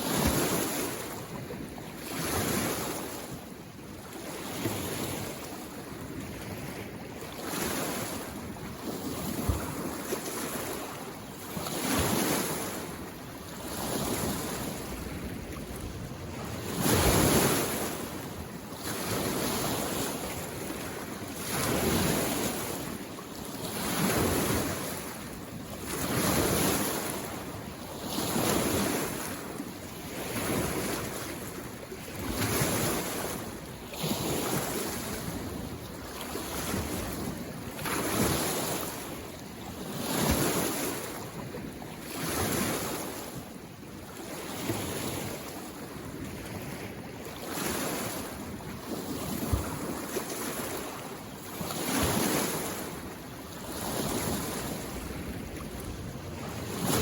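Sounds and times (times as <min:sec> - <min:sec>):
small waves washing against shore: 0:00.0 - 0:57.0.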